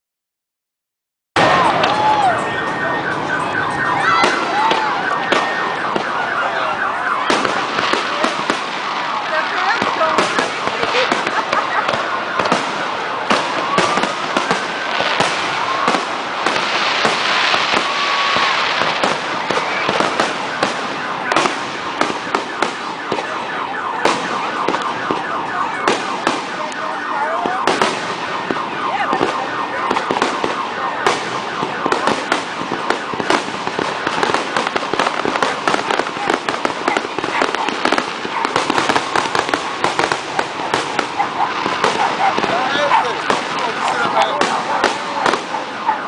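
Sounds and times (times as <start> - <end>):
fireworks bangs: 1.4 - 46.0
fireworks crackling: 1.4 - 46.0.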